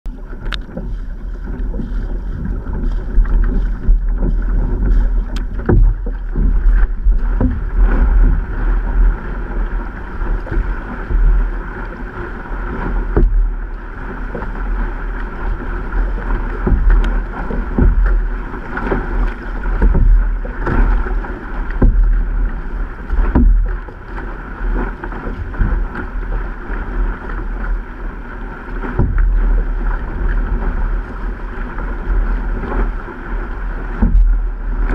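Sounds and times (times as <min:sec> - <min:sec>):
water splashing against canoe hull: 0:00.0 - 0:34.9
wind rumble on microphone: 0:00.0 - 0:34.9.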